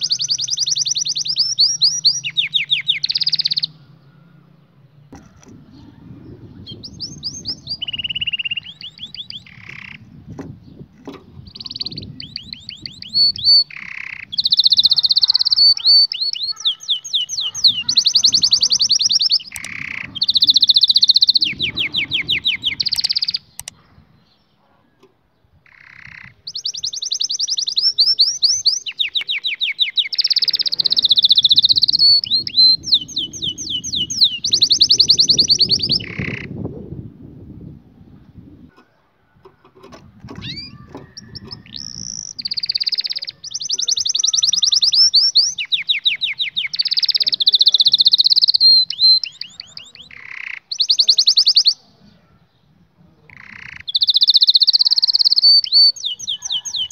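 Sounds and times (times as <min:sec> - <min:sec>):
canary singing trills: 0:00.0 - 0:36.7, 0:38.1 - 0:56.9.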